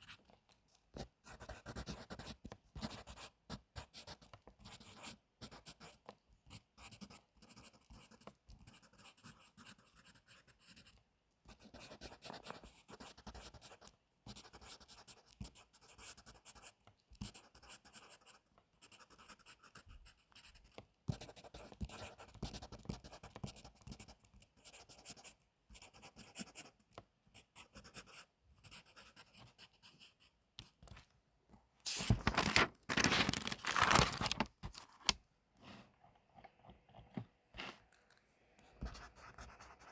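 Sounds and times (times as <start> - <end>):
pencil writing on paper: 0.0 - 30.8, 38.8 - 39.9.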